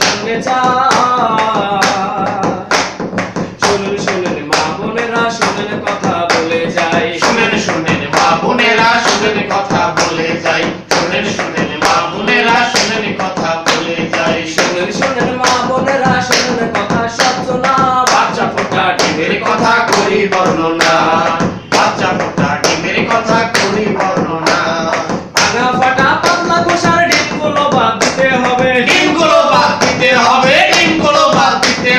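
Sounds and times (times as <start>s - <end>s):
hand claps: 0.0s - 31.9s
men singing without instruments: 0.0s - 31.9s.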